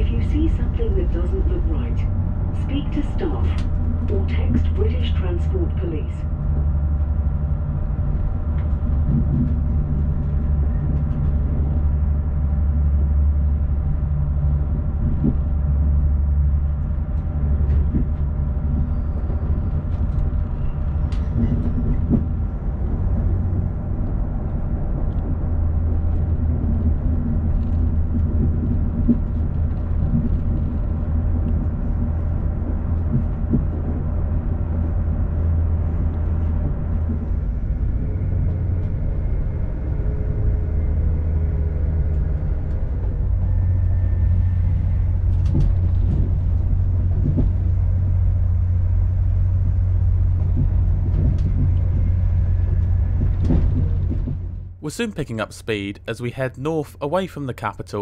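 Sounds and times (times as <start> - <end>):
train engine and running gear drone: 0.0 - 58.0.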